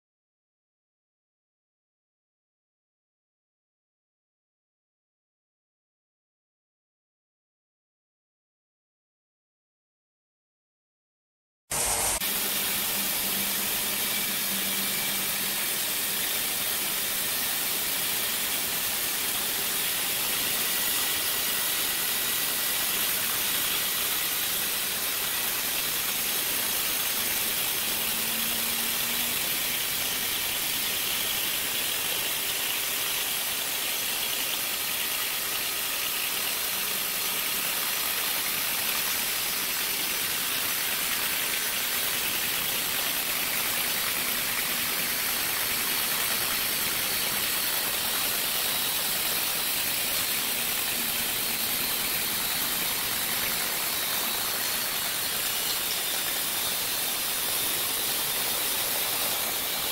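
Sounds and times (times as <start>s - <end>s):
saw blade hissing through log: 11.7s - 59.9s
sawmill machine running: 11.7s - 59.9s.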